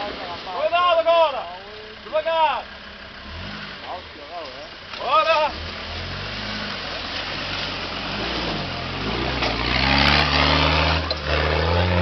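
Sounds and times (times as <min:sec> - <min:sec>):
off-road vehicle engine revving: 0:01.6 - 0:12.0.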